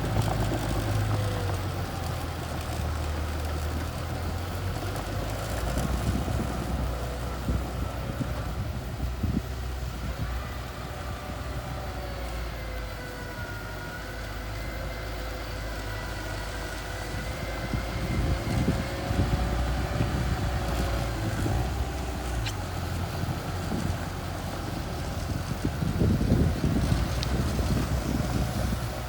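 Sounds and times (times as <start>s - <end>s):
bulldozer engine running: 0.0s - 29.0s
wind buffeting microphone: 0.0s - 29.0s.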